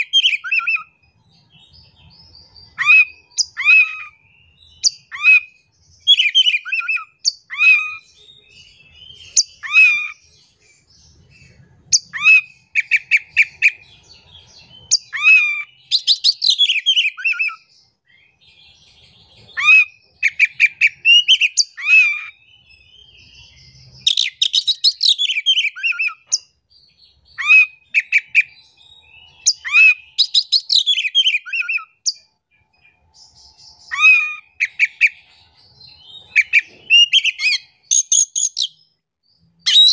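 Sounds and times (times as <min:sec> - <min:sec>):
magpie-robin singing whistled notes: 0:00.0 - 0:39.9.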